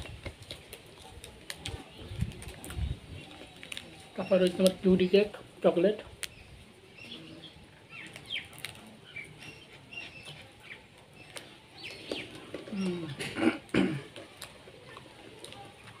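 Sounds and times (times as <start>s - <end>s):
person eating with smacks: 0.0s - 4.8s, 7.0s - 16.0s
small birds chirping: 0.0s - 16.0s.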